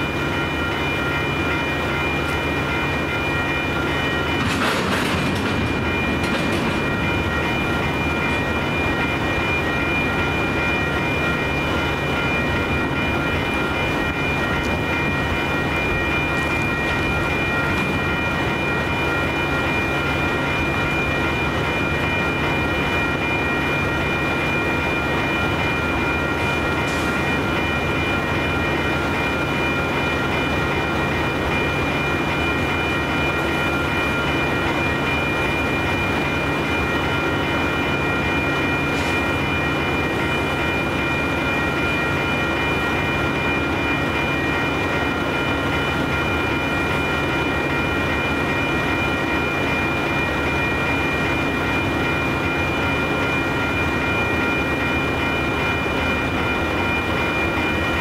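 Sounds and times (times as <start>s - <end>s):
high-pitched ringing tones: 0.0s - 58.0s
train wheels rumbling on rail: 0.0s - 58.0s.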